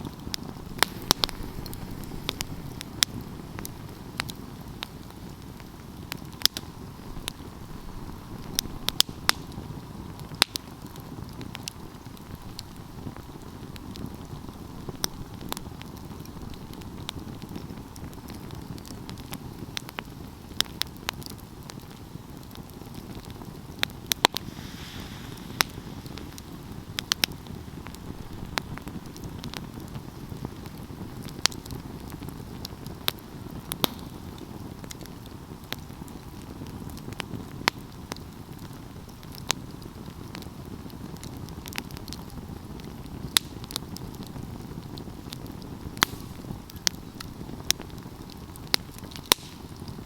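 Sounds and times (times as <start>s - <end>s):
low rustle of flames: 0.0s - 50.0s
wood fire crackling: 0.0s - 50.0s.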